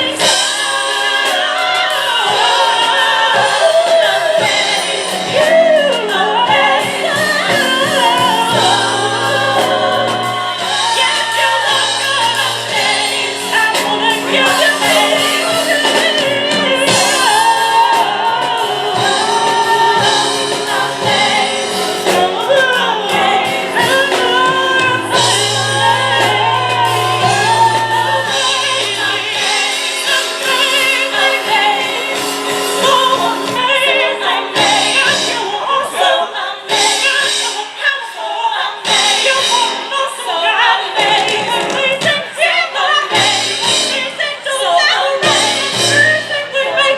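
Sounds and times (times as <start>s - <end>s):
drums: 0.0s - 46.9s
piano: 0.0s - 46.9s
women's vocal group singing: 0.0s - 46.9s.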